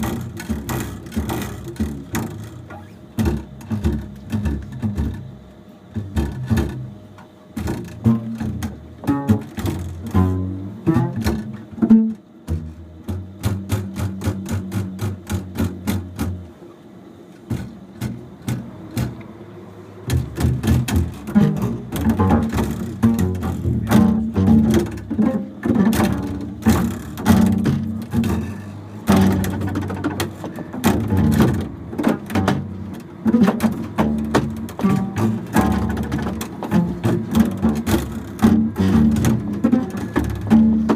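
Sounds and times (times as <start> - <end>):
double bass playing: 0.0 - 16.6, 17.4 - 40.9.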